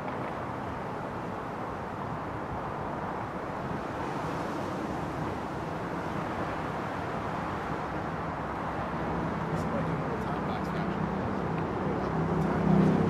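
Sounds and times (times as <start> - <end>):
beach ambience: 0.0 - 13.0.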